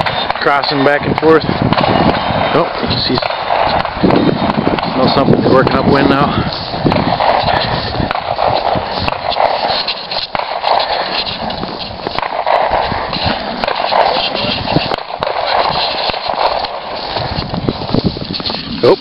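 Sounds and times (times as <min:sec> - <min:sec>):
footsteps crunching in snow: 0:01.5 - 0:19.0.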